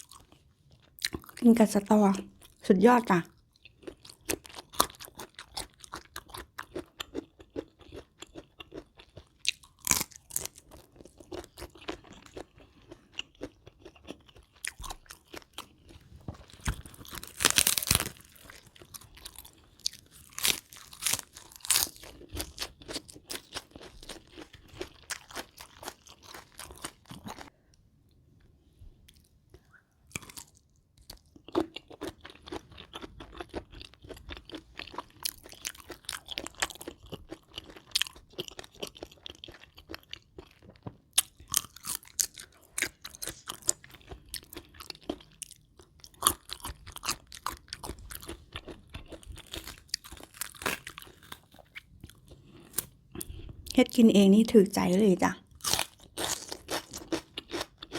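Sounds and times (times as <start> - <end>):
person chewing crunchy food: 0.0 - 1.4, 3.3 - 27.8, 29.1 - 53.8, 55.4 - 57.9.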